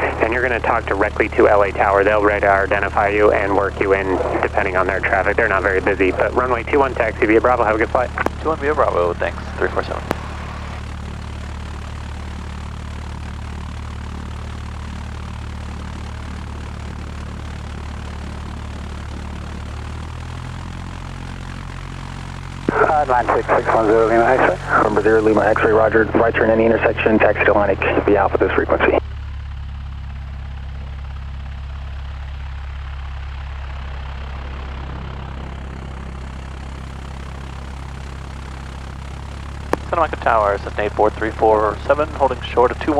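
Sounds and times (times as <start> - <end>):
airplane propeller engine droning: 0.0 - 42.9.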